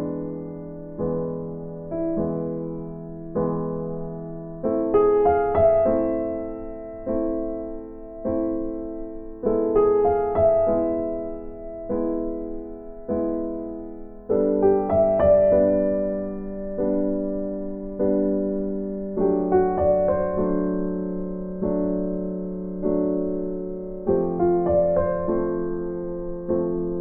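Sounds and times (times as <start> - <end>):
slow piano chords: 0.0 - 27.0.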